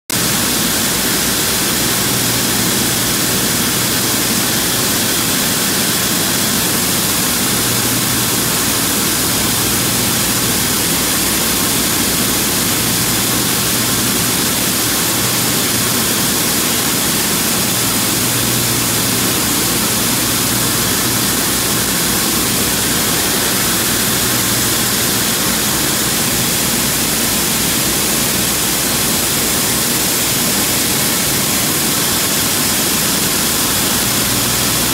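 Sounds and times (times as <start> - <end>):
low machine hum: 0.2 - 34.9.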